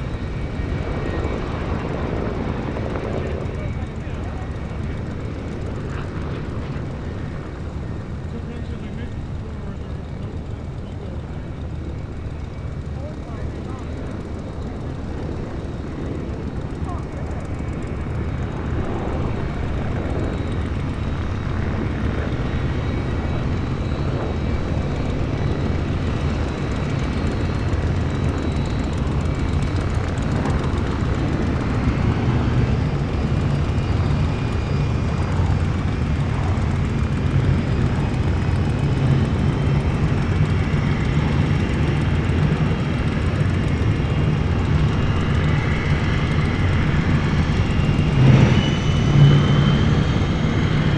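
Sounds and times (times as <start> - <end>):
gas turbine engine drone: 0.0 - 50.9.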